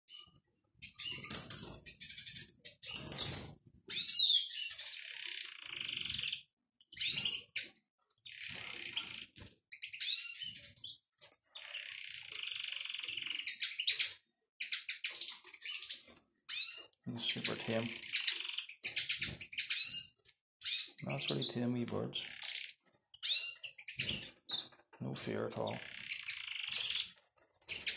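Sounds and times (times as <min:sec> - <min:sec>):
finches singing and chirping: 0:00.1 - 0:27.9.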